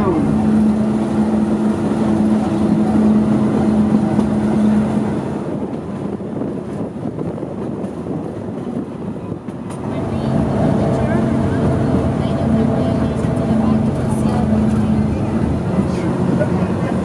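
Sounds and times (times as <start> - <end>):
train hum: 0.0 - 17.0
train rumbling on track: 0.0 - 17.0.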